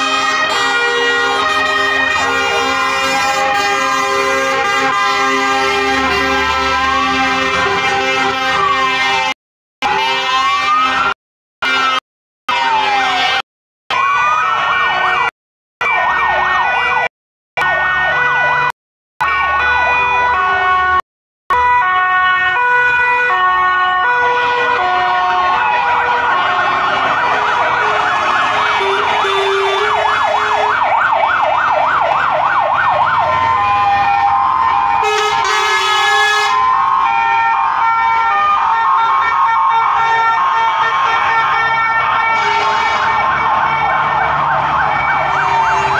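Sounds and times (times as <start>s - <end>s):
fast siren yelp: 0.0s - 45.9s
fire engine sirens wailing: 0.0s - 45.9s.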